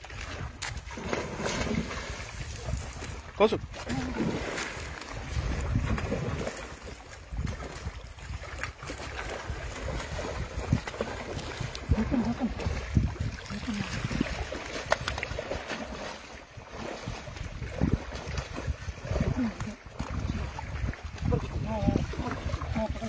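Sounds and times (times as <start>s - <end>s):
fish splashing in water: 0.0s - 23.0s
wind rumble on microphone: 0.0s - 23.0s.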